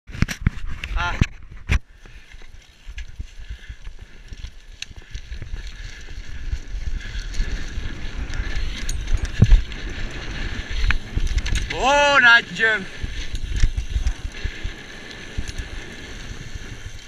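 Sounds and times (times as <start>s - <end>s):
wind buffeting microphone: 0.4s - 17.0s
low tyre rumble: 1.8s - 17.0s.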